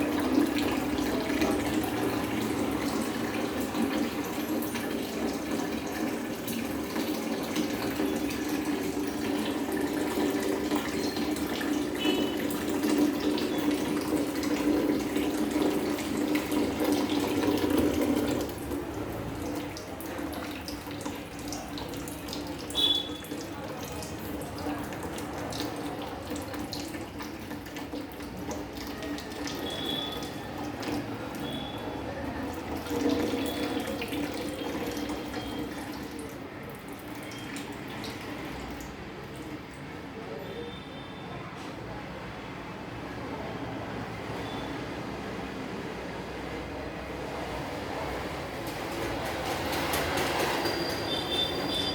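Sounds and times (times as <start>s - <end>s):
water running from a tap: 0.0s - 39.8s, 48.3s - 51.9s.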